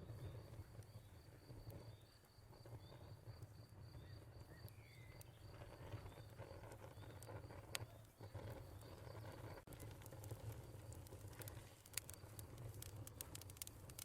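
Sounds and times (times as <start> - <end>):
cricket chirping: 0.0 - 14.0
wood fire crackling: 0.0 - 14.0.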